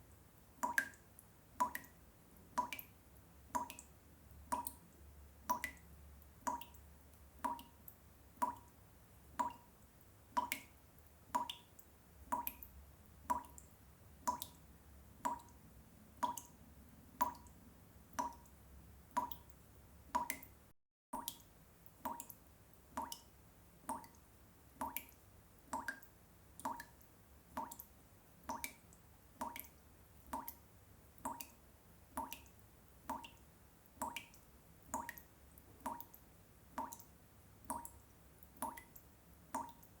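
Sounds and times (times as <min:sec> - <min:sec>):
water drops dripping into water: 0:00.4 - 0:15.6, 0:16.2 - 0:16.6, 0:17.2 - 0:40.0.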